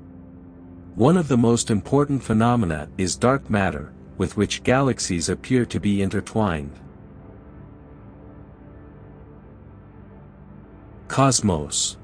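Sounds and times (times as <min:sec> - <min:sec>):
ambient drone music: 0:00.0 - 0:12.0.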